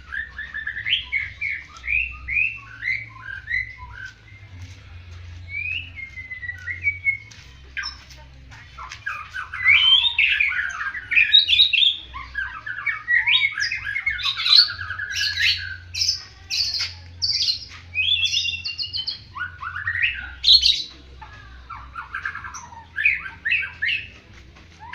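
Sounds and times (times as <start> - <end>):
bird singing whistled phrases: 0.0 - 4.7, 5.5 - 8.0, 9.0 - 21.0, 21.7 - 24.2.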